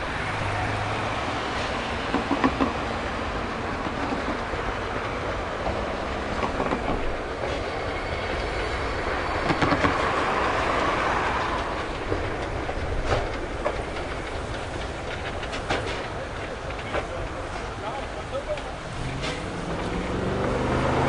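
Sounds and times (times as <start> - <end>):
train rolling past: 0.0 - 21.0
wheels clacking over rail joints: 0.0 - 21.0.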